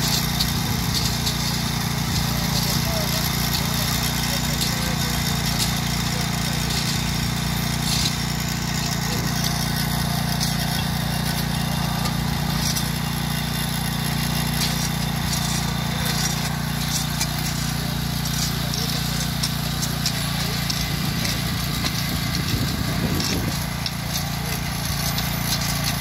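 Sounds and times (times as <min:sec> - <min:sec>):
small petrol engine humming: 0:00.0 - 0:26.0.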